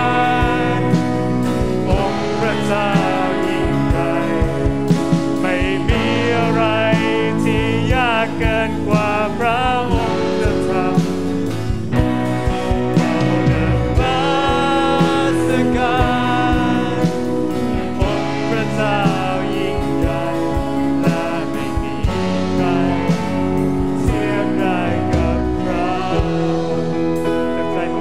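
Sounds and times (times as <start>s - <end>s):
band playing held chords: 0.0s - 28.0s
person singing: 0.0s - 28.0s
steady drum beat: 0.0s - 28.0s.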